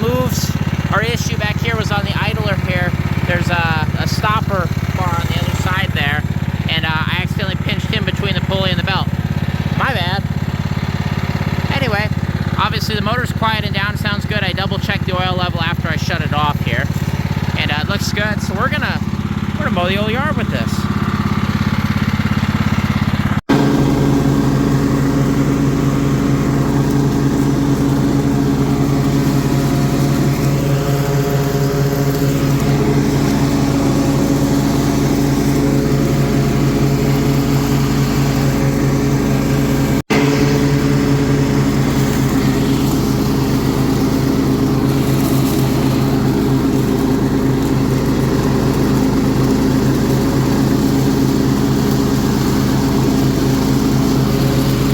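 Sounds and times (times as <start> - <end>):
riding lawn mower engine: 0.0 - 54.9.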